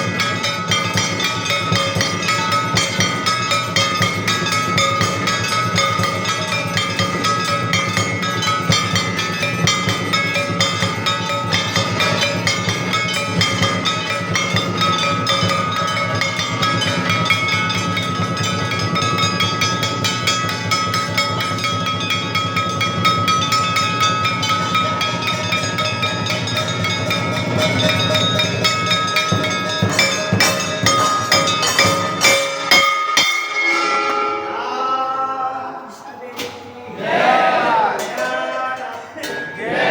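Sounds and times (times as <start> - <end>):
bells and cymbals ringing: 0.0 - 36.4, 37.0 - 39.9.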